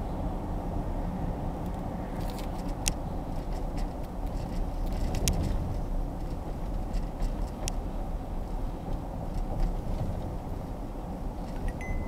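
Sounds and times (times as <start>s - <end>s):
road and engine rumble inside car: 0.0s - 12.0s.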